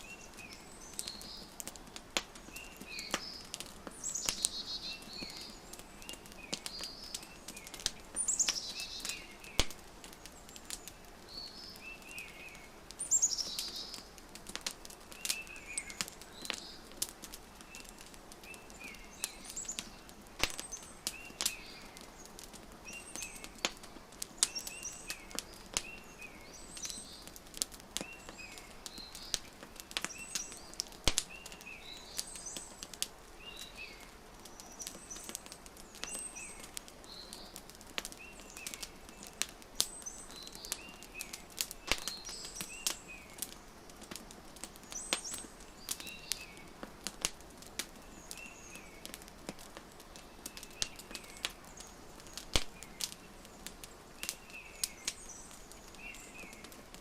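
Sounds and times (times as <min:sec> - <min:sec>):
small birds chirping: 0:00.0 - 0:57.0
wood fire crackling: 0:00.0 - 0:57.0.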